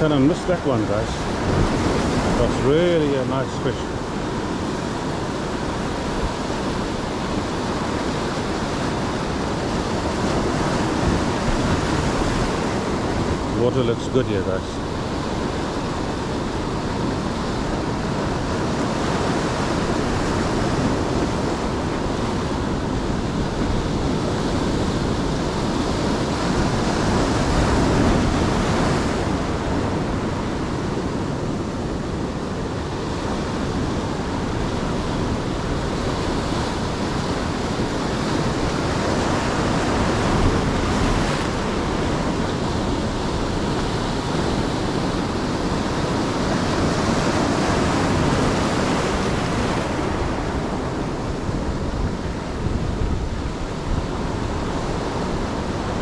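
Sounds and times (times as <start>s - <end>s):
ocean surf breaking: 0.0s - 56.0s
wind on the microphone: 0.0s - 56.0s.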